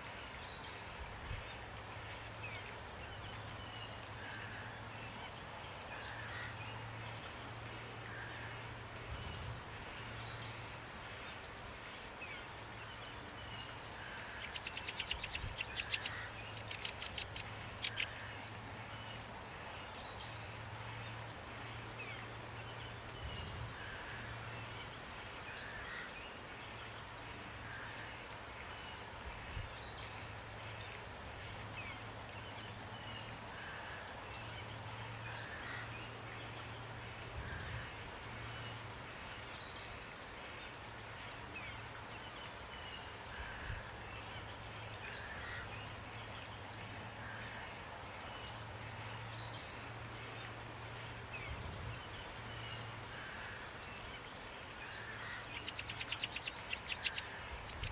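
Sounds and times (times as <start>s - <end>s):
steady rain hiss: 0.0s - 57.9s
songbirds chirping and trilling: 0.2s - 57.9s.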